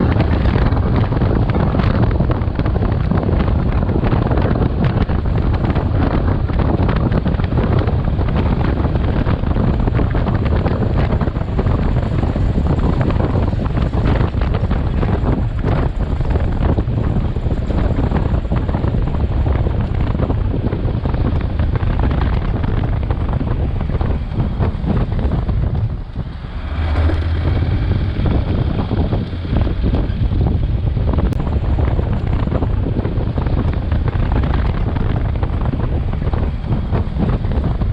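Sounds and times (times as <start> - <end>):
motorcycle engine: 0.0 - 37.9
road noise: 0.0 - 37.9
wind buffeting on microphone: 0.0 - 37.9.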